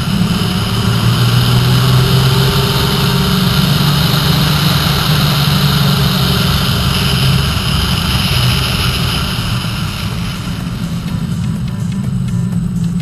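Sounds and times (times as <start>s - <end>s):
motorcycle engine running: 0.0s - 13.0s
wind on microphone: 0.0s - 13.0s.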